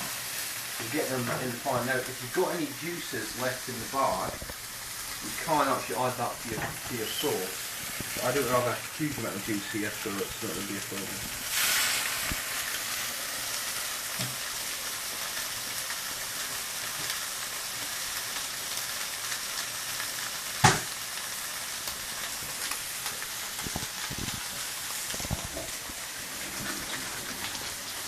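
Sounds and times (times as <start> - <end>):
steaks sizzling in a frying pan: 0.0 - 28.0.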